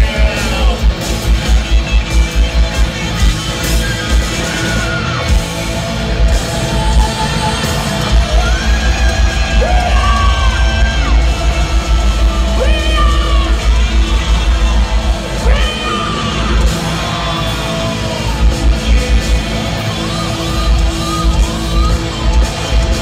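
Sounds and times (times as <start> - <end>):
shouted vocals: 0.0 - 2.1, 2.9 - 23.0
live rock band playing: 0.0 - 23.0.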